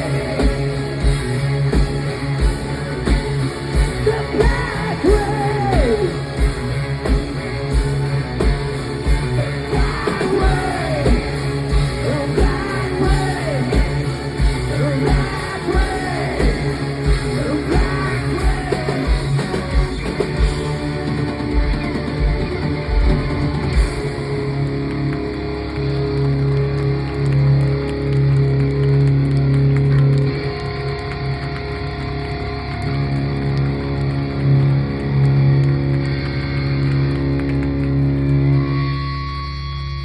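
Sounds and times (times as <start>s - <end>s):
hard rock band playing: 0.0s - 39.7s
sliding lead guitar line: 0.0s - 40.0s.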